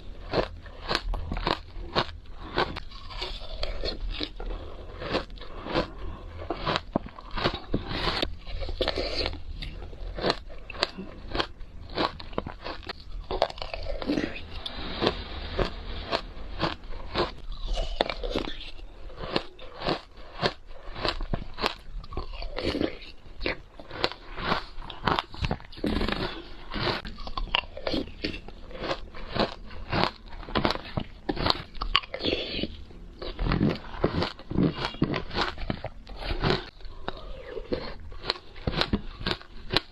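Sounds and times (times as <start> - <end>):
crunching shaved ice: 0.0 - 39.9.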